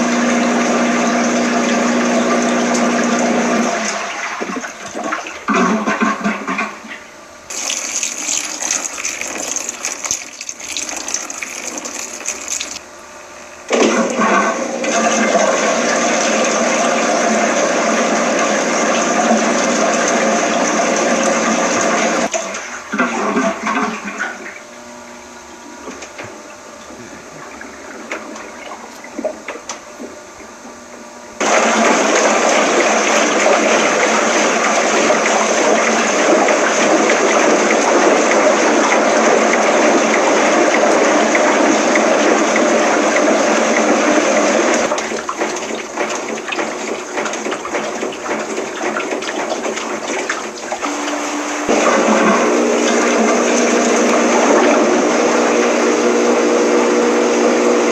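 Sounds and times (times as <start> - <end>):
water gushing in washing machine: 0.0 - 25.0, 25.6 - 57.9
washing machine hum: 0.0 - 57.9.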